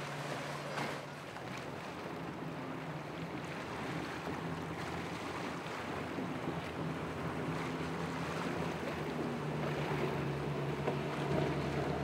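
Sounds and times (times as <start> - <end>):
motorboat engine running: 0.0 - 12.0
water rushing: 0.0 - 12.0.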